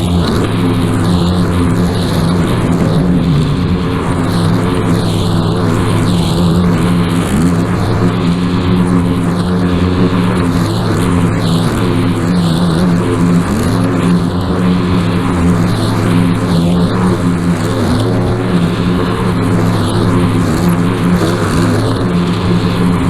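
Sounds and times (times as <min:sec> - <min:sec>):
string trimmer running: 0:00.0 - 0:23.0.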